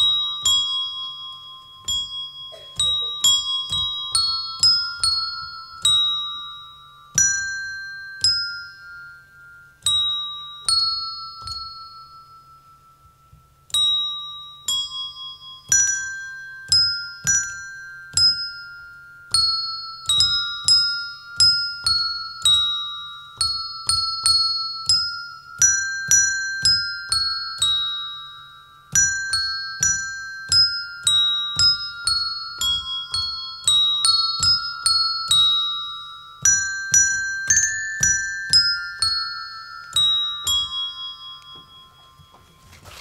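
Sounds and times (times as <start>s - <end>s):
tuned bells playing melody: 0.0s - 43.0s.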